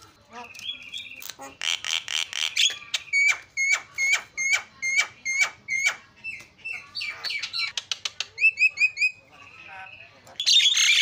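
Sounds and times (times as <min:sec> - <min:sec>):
bird whistling and chattering: 0:00.5 - 0:09.2, 0:10.4 - 0:11.0.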